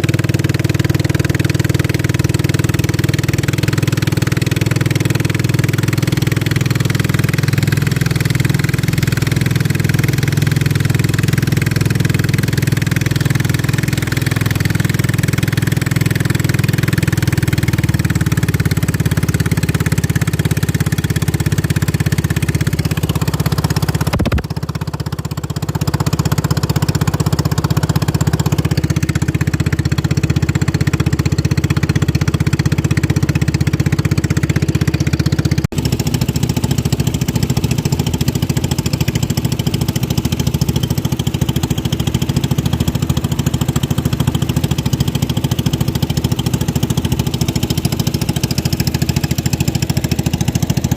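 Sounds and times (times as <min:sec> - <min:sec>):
racing boat engine running: 0:00.0 - 0:50.9.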